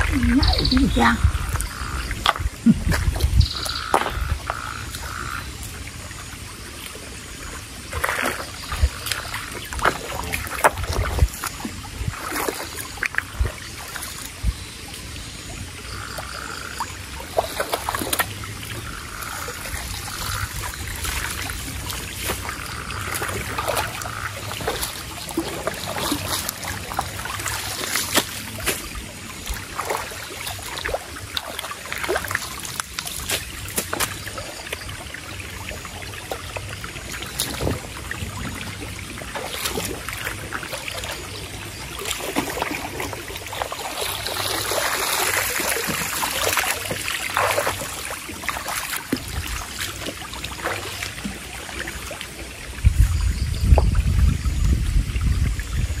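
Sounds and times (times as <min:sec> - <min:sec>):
splashes and stone knocks: 0:00.0 - 0:05.9, 0:07.8 - 0:14.6, 0:17.2 - 0:35.0, 0:35.7 - 0:54.3
stream water trickling: 0:00.0 - 0:56.0.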